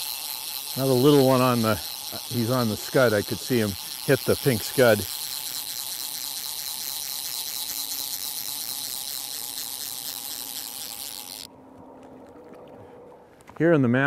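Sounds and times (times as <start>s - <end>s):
fishing reel drag clicking: 0.0s - 11.5s.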